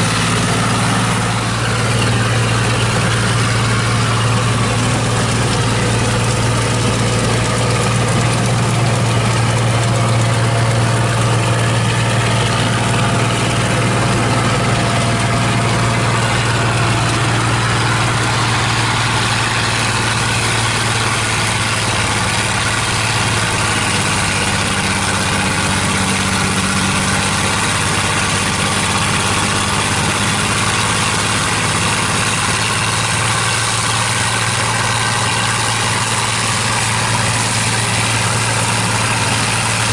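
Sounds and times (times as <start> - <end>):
forage harvester chopping: 0.0 - 39.9.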